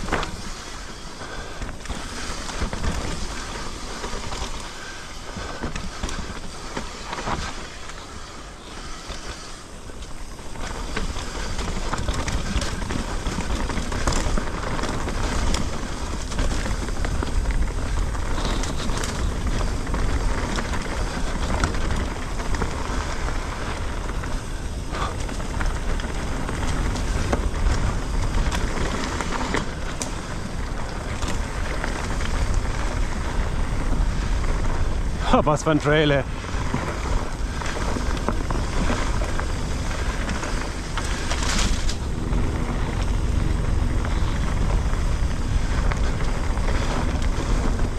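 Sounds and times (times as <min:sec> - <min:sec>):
bike knocks and rattles: 0:00.0 - 0:47.9
tyres rolling over dirt and stones: 0:00.0 - 0:47.9
wind rushing over microphone: 0:00.0 - 0:47.9.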